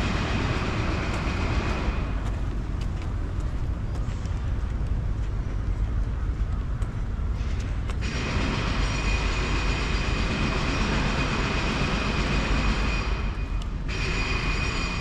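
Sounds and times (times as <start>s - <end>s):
footsteps on paved path: 0.0s - 14.2s.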